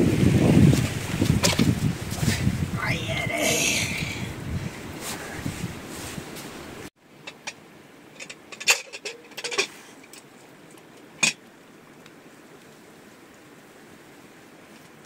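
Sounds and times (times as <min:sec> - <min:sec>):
outdoor sound: 0:00.0 - 0:15.0
faint steady hiss: 0:00.2 - 0:15.0.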